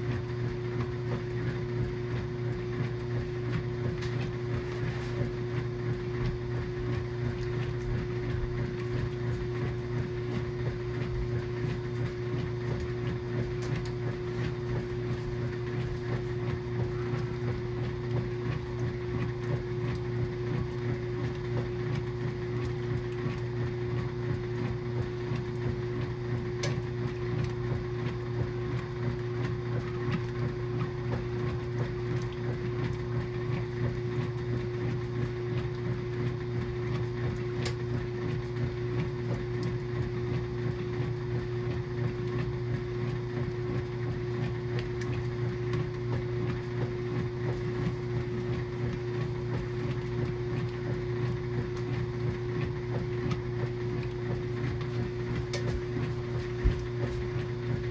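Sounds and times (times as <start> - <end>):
washing machine motor humming: 0.0 - 57.9.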